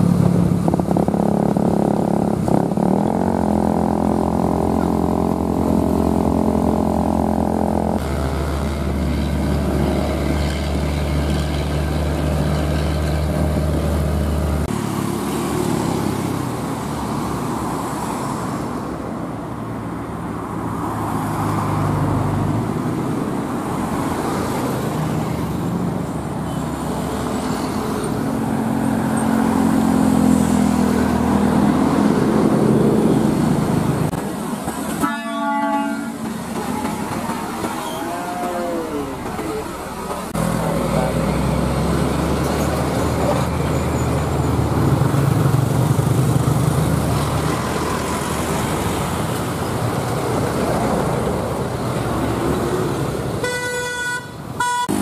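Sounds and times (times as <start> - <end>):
passing motorcycles: 0.0 - 19.0, 20.5 - 55.0
truck diesel engine: 0.0 - 19.8, 20.6 - 55.0
passing cars: 0.0 - 55.0.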